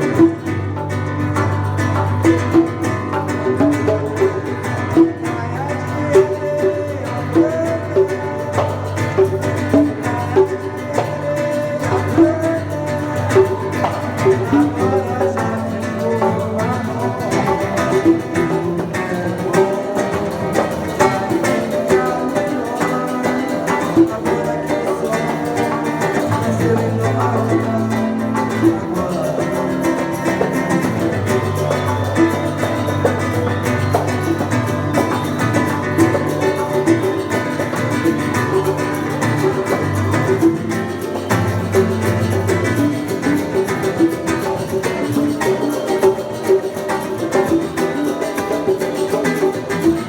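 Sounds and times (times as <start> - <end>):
acoustic guitar playing: 0.0 - 50.0
sharp percussive hits: 0.0 - 50.0.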